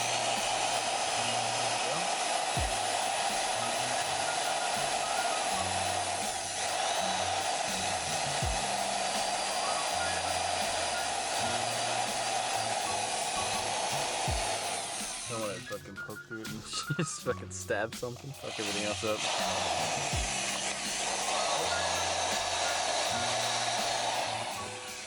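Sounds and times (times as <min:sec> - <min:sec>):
electric drill running: 0:00.0 - 0:15.8, 0:18.5 - 0:25.0
background music: 0:00.0 - 0:25.0.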